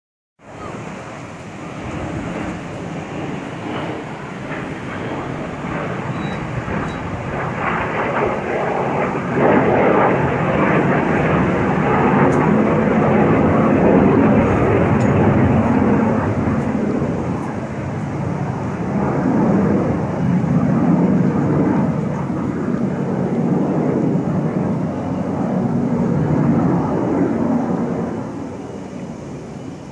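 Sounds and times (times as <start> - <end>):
aircraft flying overhead: 0.4 - 29.9.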